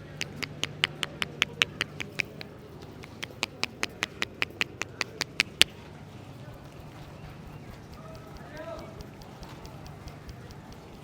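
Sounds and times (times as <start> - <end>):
hands slapping a head: 0.0 - 5.7, 6.4 - 11.0.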